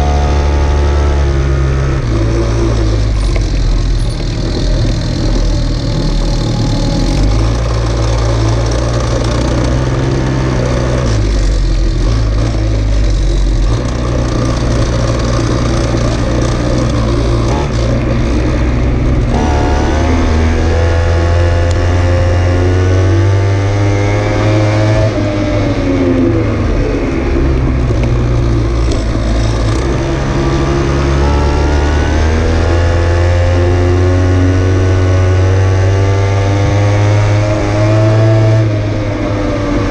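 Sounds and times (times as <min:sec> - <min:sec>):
small vehicle engine revving: 0:00.0 - 0:39.9.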